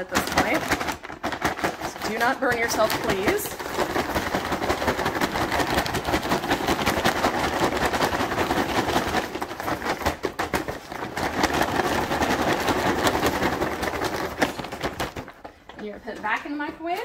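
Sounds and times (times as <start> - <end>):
bag rustling: 0.0 - 16.4
popcorn rattling in bag: 0.0 - 17.0.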